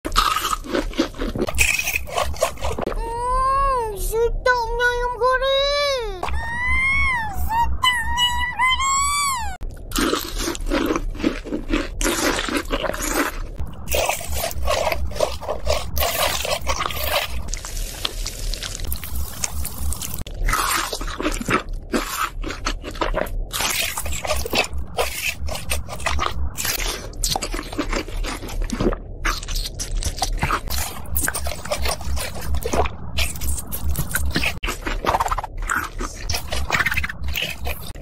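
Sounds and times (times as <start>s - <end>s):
crunchy biting and chewing: 0.1s - 3.0s, 9.6s - 38.0s.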